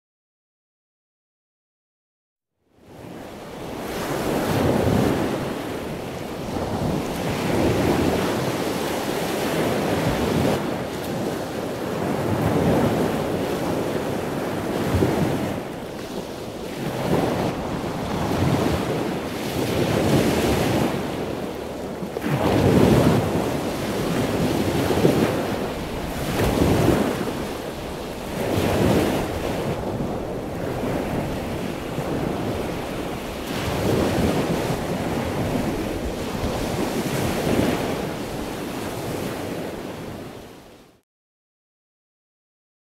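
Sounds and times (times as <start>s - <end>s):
wind: 2.6s - 41.0s
waves breaking on beach: 2.8s - 41.0s.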